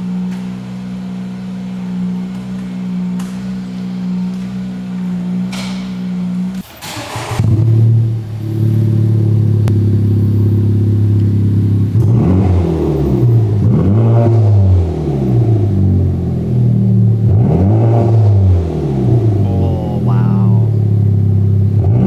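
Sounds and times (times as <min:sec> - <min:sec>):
car engine idling and revving: 0:00.0 - 0:19.4, 0:20.7 - 0:22.0.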